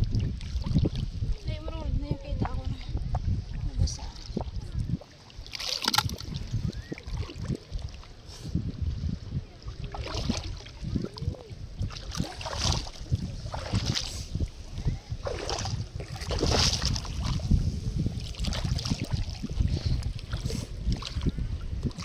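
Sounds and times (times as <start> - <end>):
seawater sloshing and splashing: 0.0 - 1.4, 3.4 - 8.3, 9.6 - 22.0
wind rumble on microphone: 0.0 - 22.0.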